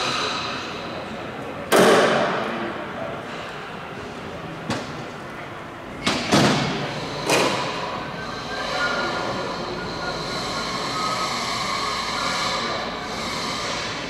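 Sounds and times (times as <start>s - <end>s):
workshop background noise: 0.0s - 14.0s.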